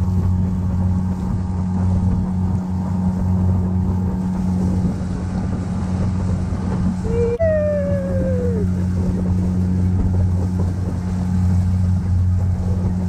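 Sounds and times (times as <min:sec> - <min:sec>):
outboard motor humming: 0:00.0 - 0:13.0
wind buffeting microphone: 0:00.0 - 0:13.0.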